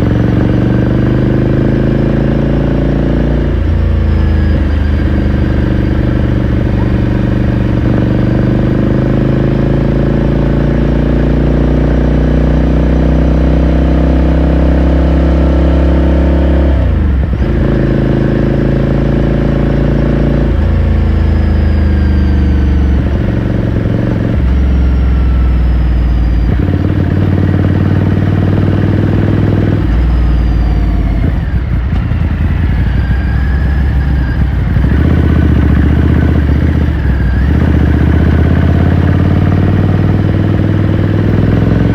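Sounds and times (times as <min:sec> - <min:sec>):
motorcycle engine and exhaust: 0:00.0 - 0:41.9.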